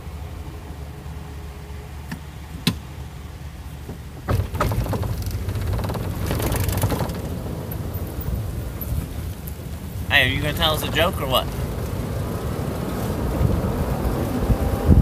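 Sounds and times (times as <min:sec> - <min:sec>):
golf cart rumble: 0:00.0 - 0:15.0.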